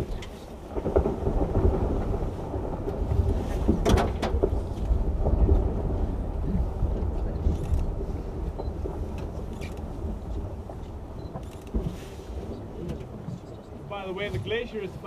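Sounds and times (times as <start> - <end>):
ice calving rumble: 0.0 - 15.0.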